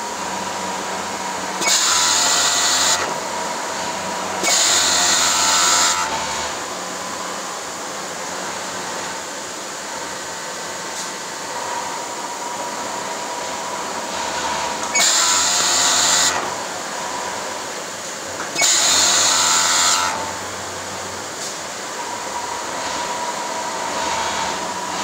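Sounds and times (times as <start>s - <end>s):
sewing machine high whir: 0.0s - 9.3s, 11.4s - 25.0s.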